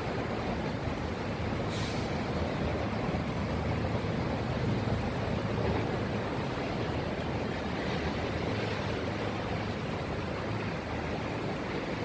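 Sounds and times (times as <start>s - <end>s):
constant rushing noise: 0.0s - 12.0s.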